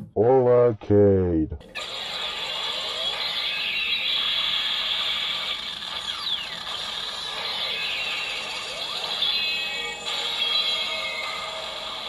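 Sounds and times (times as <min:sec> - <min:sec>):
electronic mechanical whirring: 0:01.7 - 0:12.0.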